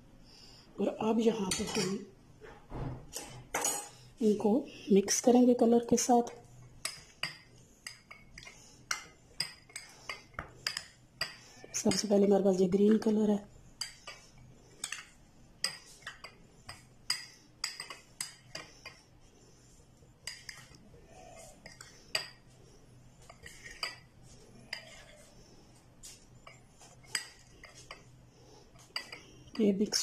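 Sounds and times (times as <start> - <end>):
spoon stirring sticky food: 6.0 - 30.0.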